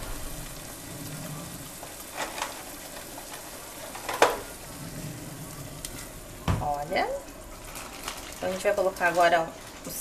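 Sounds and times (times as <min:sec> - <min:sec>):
sauce sizzling in a frying pan: 0:00.0 - 0:10.0.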